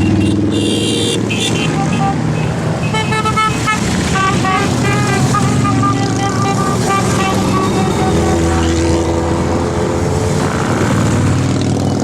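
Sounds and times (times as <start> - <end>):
motorcycle engine revving: 0.0 - 12.0
motorcycle engines running: 0.0 - 12.0.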